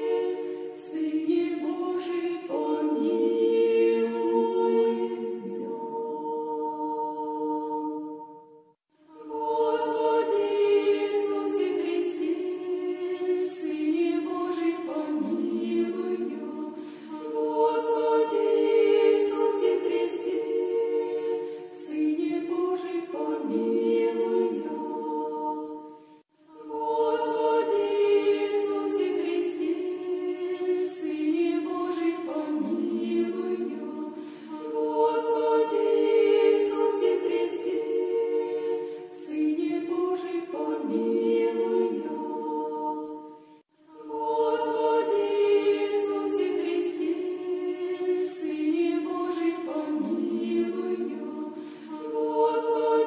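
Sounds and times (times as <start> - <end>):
choir chanting: 0.0 - 53.0.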